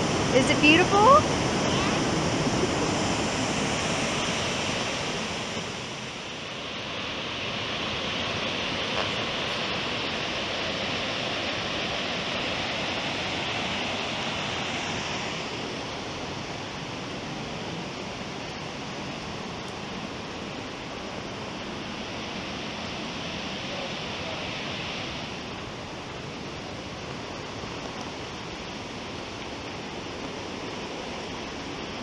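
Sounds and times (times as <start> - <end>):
waterfall rushing water: 0.0 - 32.0.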